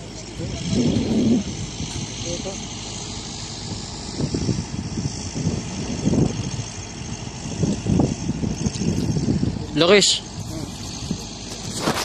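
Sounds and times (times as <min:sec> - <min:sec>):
low rumbles: 0:00.0 - 0:12.0
machinery running: 0:00.0 - 0:12.0.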